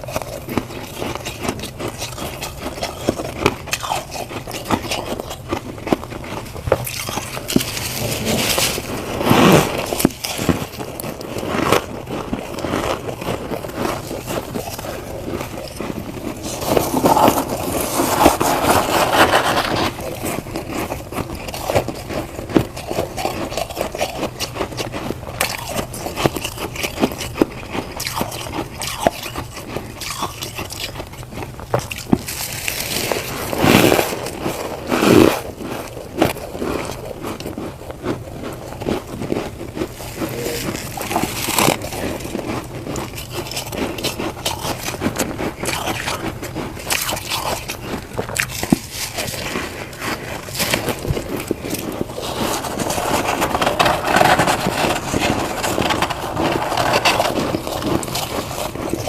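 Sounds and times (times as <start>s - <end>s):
chewing crunchy frost: 0.0s - 59.0s.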